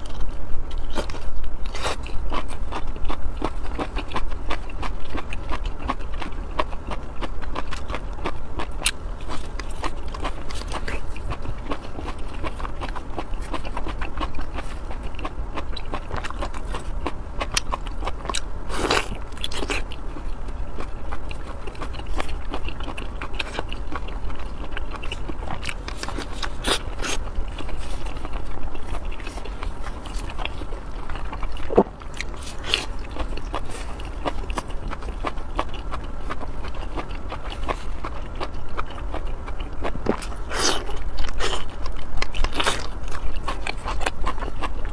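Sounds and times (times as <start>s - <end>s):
chewing and mouth smacks: 0.0s - 44.9s.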